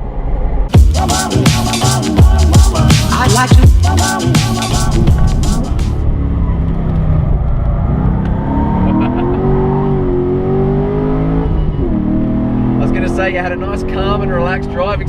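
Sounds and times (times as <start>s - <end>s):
car engine revving: 0.7s - 15.0s.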